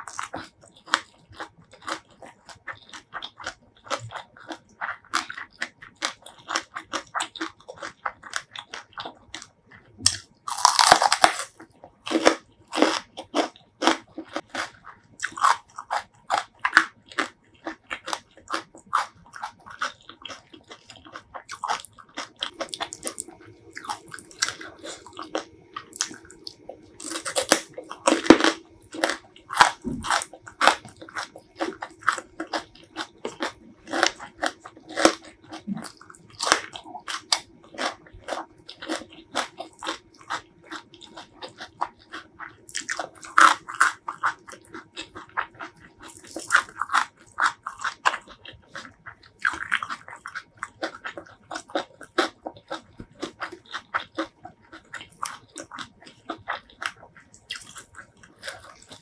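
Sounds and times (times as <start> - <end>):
close chewing with mouth clicks: 0.0 - 59.0
crunching: 0.0 - 59.0.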